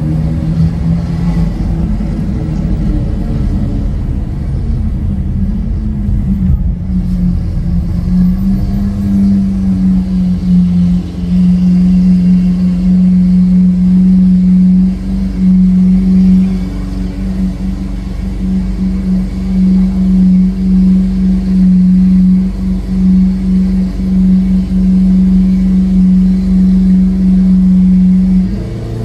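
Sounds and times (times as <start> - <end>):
car engine droning at low revs: 0.0 - 29.0.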